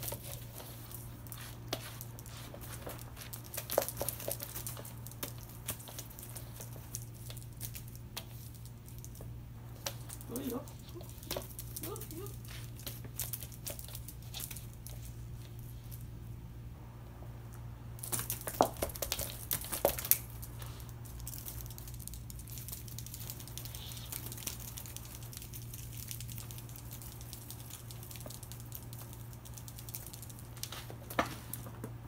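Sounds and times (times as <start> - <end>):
toy rustling: 0.0 - 16.4, 18.0 - 32.0
steady low hum: 0.0 - 32.0.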